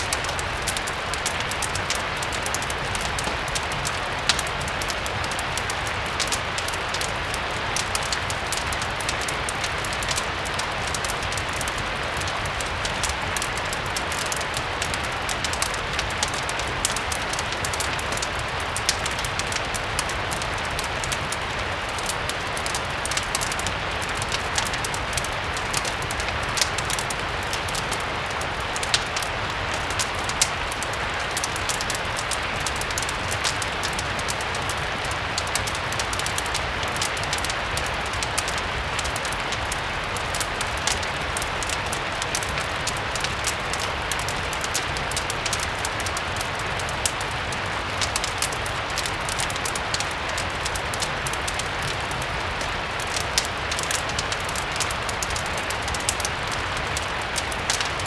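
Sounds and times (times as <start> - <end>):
steady rain hiss: 0.0 - 58.0
wood fire crackling and popping: 0.0 - 58.0.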